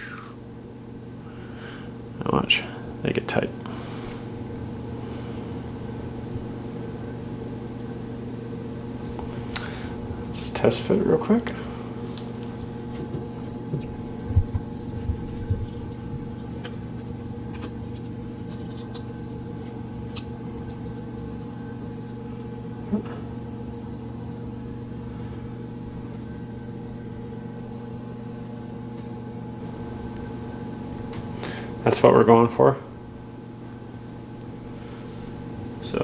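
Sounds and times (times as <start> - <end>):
steady background hum with tones: 0.0 - 36.0.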